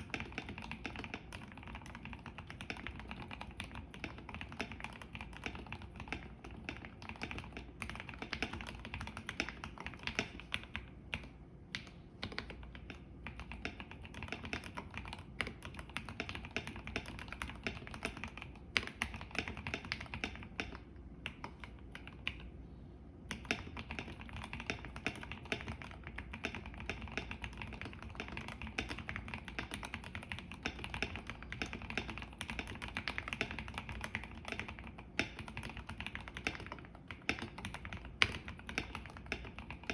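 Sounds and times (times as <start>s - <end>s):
mechanical keyboard typing: 0.0s - 22.5s, 23.3s - 39.9s.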